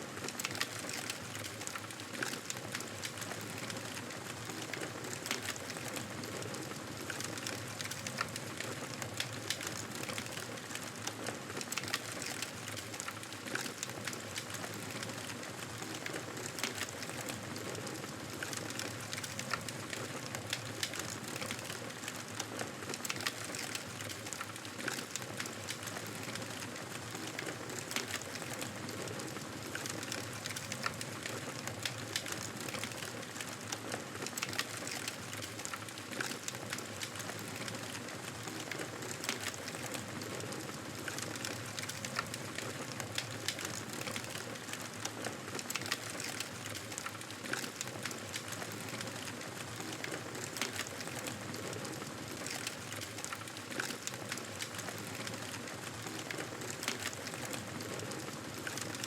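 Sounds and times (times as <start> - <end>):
campfire crackling: 7.0 - 22.4, 23.0 - 59.0.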